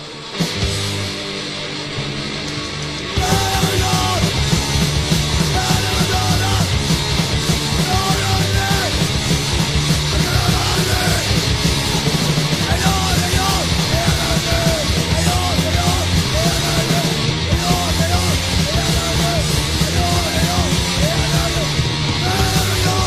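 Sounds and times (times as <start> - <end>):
distorted guitars: 0.0 - 23.0
drums: 0.0 - 23.0
hardcore punk band playing: 0.0 - 23.0
shouted vocals: 3.1 - 11.7, 12.5 - 23.0.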